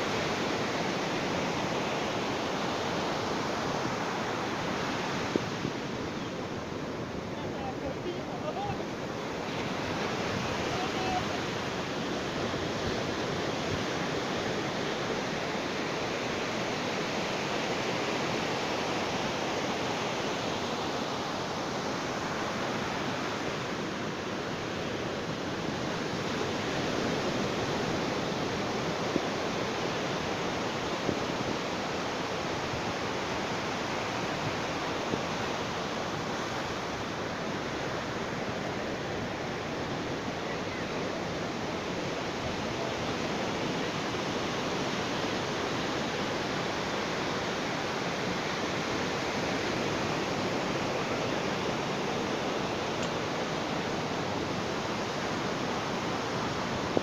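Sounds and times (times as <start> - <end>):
sea waves on a beach: 0.0 - 57.0.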